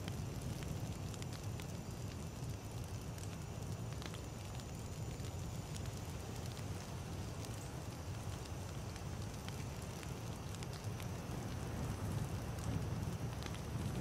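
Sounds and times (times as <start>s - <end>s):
campfire flames rumbling: 0.0s - 14.0s
fire crackling and popping: 0.0s - 14.0s.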